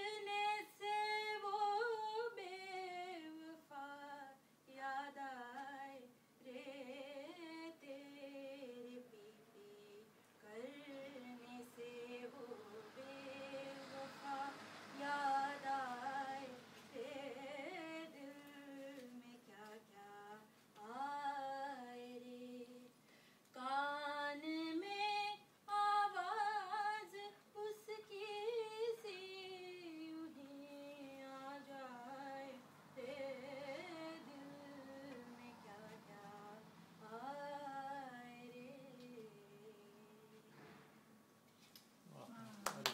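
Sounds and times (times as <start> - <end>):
woman singing unaccompanied: 0.0 - 40.6.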